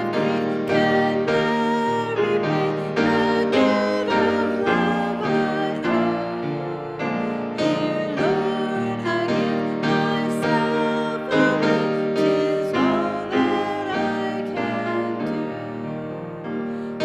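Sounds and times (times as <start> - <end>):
congregation singing a hymn: 0.0 - 17.0
piano accompaniment: 0.0 - 17.0.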